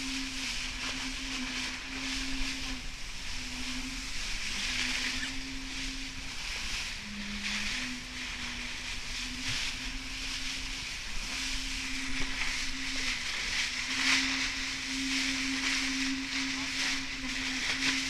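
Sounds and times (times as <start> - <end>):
steady low hum: 0.0 - 18.0
water rushing past hull: 0.0 - 18.0
wind on microphone: 0.0 - 18.0.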